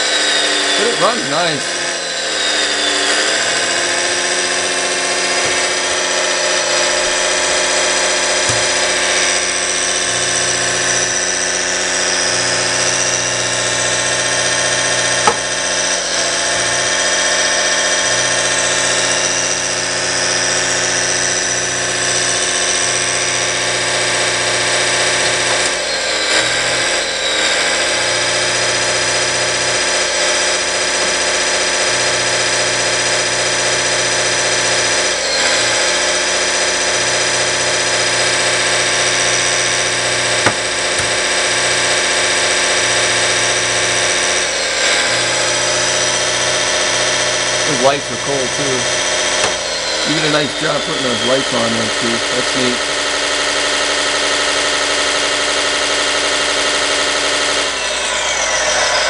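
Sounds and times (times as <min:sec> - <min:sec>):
excavator engine sound: 0:00.0 - 0:59.0
hydraulic pump whirring: 0:00.0 - 0:59.0.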